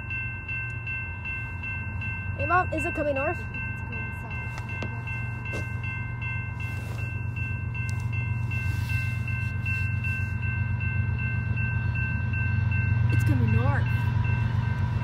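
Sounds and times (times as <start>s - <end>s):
railroad crossing bell ringing: 0.0s - 15.0s
train rumbling: 0.0s - 15.0s.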